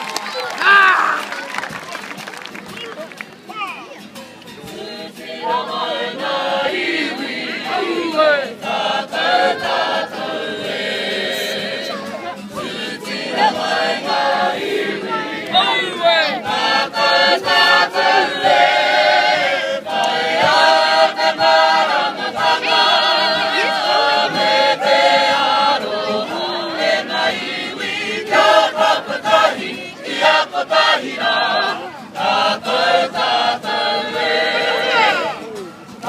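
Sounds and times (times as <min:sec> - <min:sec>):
group singing unaccompanied: 0:04.6 - 0:36.0.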